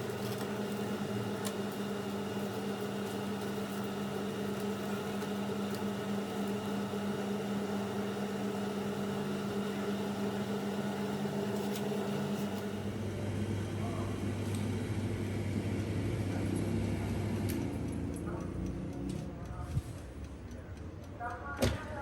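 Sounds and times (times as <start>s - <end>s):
air fryer fan humming: 0.0s - 22.0s.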